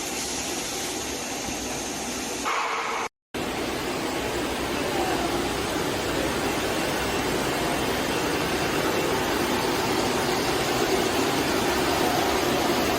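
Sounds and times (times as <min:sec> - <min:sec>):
machine humming and hissing: 0:00.0 - 0:12.9.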